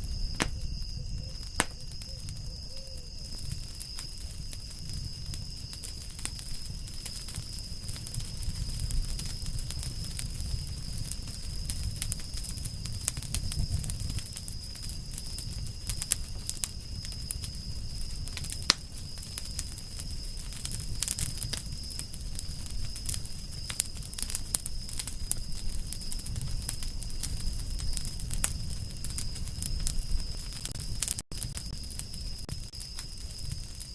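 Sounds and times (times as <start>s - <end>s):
campfire crackling and popping: 0.0s - 33.9s
low rumble of flames: 0.0s - 33.9s.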